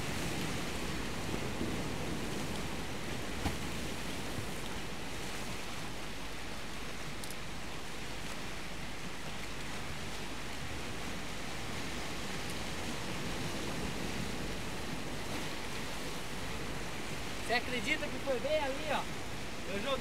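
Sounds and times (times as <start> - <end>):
sea waves washing: 0.0 - 20.0
wind noise on microphone: 0.0 - 20.0.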